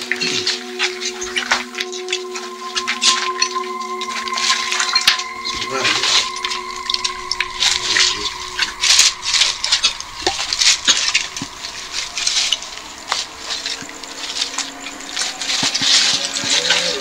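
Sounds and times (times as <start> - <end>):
footsteps crunching through dry leaves: 0.2 - 17.0.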